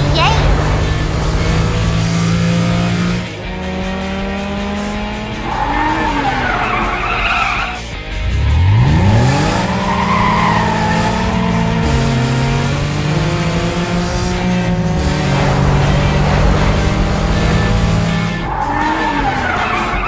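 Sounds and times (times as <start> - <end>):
background music: 0.0 - 20.0
car engine revving: 0.0 - 20.0
tire screech: 0.0 - 20.0.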